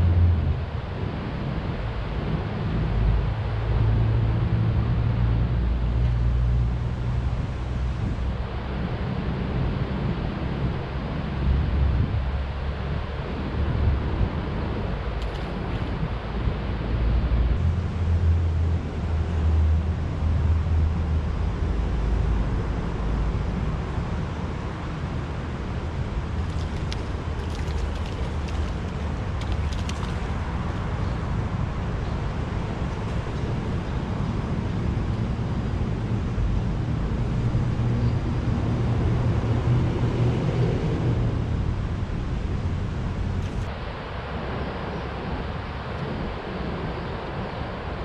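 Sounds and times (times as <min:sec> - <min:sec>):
traffic rumble on bridge overhead: 0:00.0 - 0:48.0.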